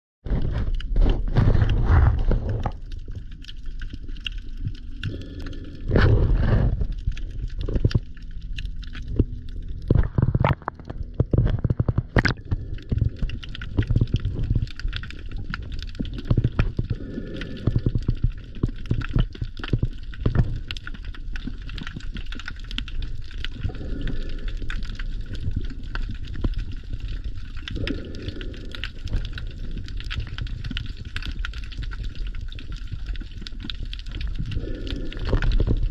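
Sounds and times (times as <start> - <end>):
muffled underwater water rumble: 0.2 - 35.9
underwater clicks and crackles: 0.2 - 35.9.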